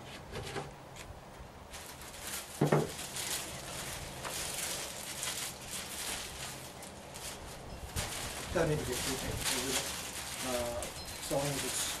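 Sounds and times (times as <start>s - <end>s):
plastic bag crinkling: 1.7s - 12.0s.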